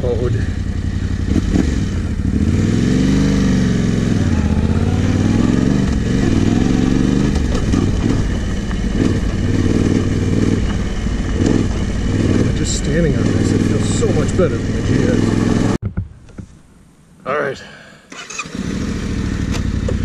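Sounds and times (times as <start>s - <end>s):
motorcycle engine revving: 0.0s - 15.8s, 18.1s - 20.0s.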